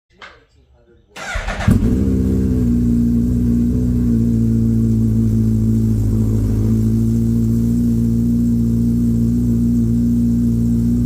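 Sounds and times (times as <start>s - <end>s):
motorcycle engine idling: 1.2s - 11.0s.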